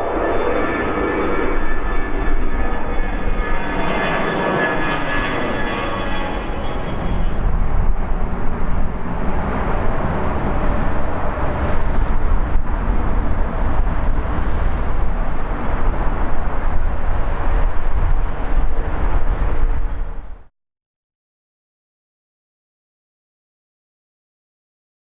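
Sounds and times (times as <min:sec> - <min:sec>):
jet engine fan whine: 0:00.0 - 0:20.5
jet engine roar: 0:00.0 - 0:20.5.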